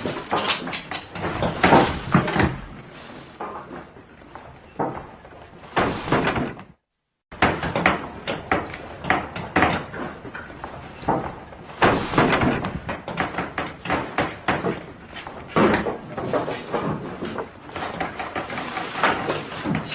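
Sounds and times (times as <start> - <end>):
wood and tools clattering: 0.0 - 6.8, 7.4 - 19.9.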